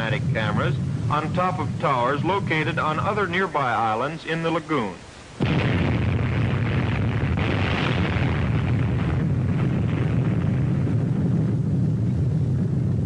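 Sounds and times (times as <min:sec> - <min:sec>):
low rumbling explosion roar: 0:00.0 - 0:03.8, 0:05.4 - 0:13.0.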